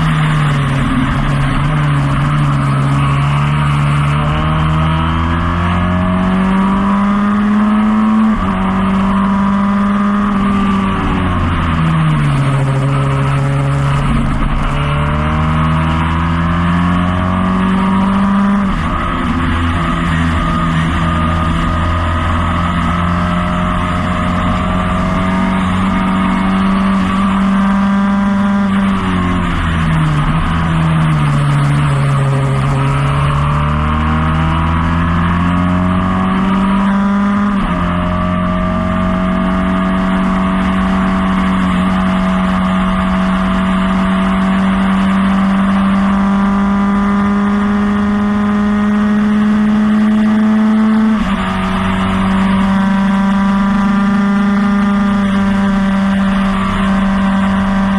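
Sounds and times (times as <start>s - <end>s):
race car engine at high revs: 0.0s - 57.9s.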